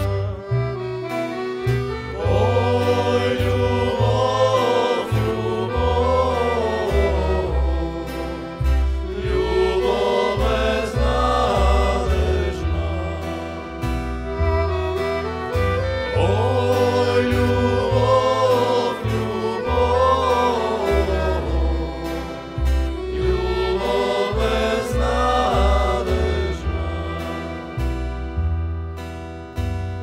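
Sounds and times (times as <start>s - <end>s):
accordion: 0.0s - 30.0s
acoustic guitar: 0.0s - 30.0s
double bass line: 0.0s - 30.0s
violin: 0.0s - 30.0s
men singing together: 2.0s - 14.4s, 16.0s - 27.8s.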